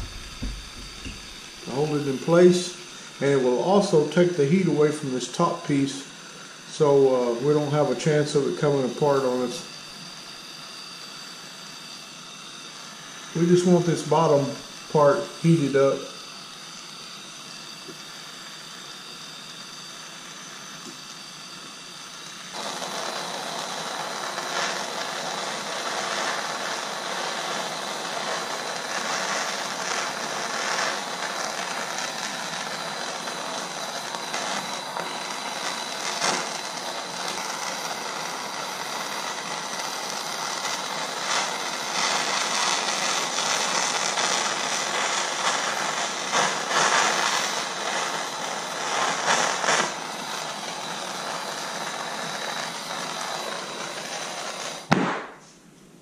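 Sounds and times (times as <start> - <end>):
gas torch hissing: 0.0 - 55.5.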